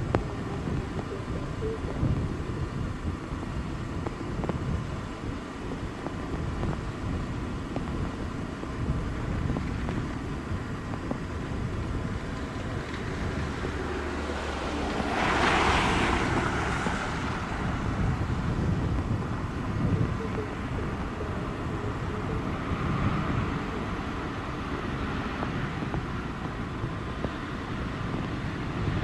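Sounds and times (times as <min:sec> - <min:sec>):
jet engines rumbling: 0:00.0 - 0:29.0
wind on microphone: 0:00.0 - 0:29.0
jet rolling on wet runway: 0:03.8 - 0:29.0.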